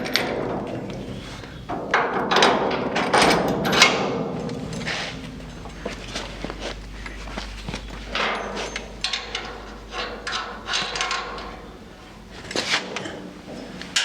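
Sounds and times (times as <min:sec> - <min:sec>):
low hum: 0:00.0 - 0:14.0
metal hardware clinking: 0:00.0 - 0:14.0.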